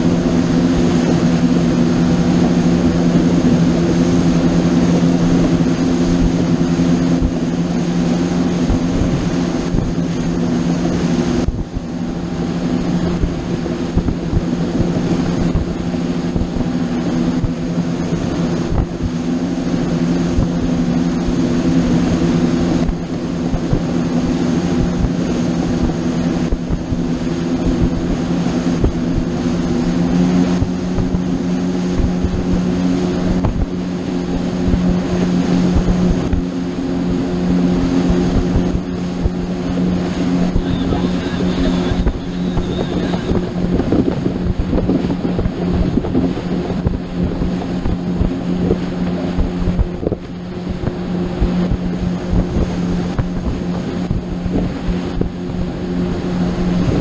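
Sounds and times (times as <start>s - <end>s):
boat engine running: 0.0s - 57.0s
water rushing: 0.0s - 57.0s.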